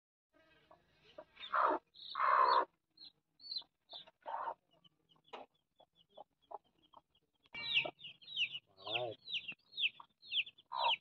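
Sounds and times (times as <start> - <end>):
hen clucking: 0.6 - 11.0
chicks peeping: 0.7 - 11.0.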